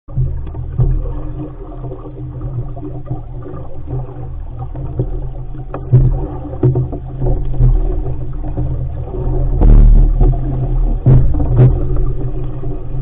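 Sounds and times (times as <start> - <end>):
water rushing along hull: 0.1 - 13.0
wind rumble on microphone: 0.1 - 13.0.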